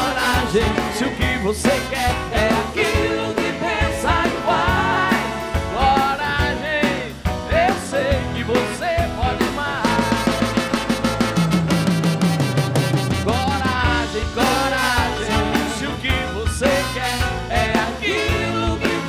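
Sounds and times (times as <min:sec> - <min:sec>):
trumpet playing: 0:00.0 - 0:06.5, 0:09.6 - 0:19.0
live rock band playing: 0:00.0 - 0:19.0.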